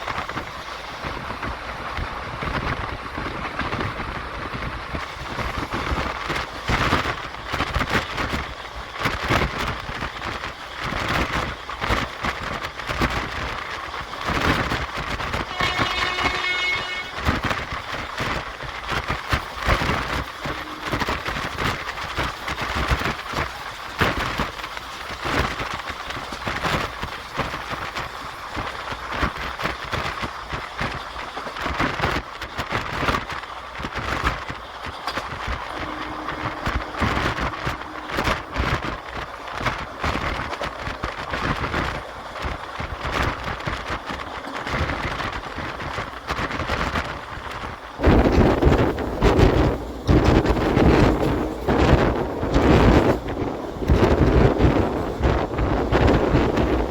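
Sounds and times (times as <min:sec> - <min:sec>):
train wheels knocking and clattering: 0:00.0 - 0:56.9
wind rushing at train window: 0:00.0 - 0:56.9.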